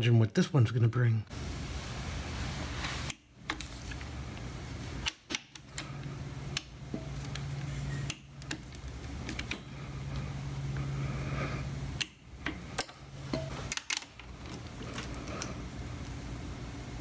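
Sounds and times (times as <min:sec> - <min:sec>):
steady low hum: 0:01.1 - 0:17.0.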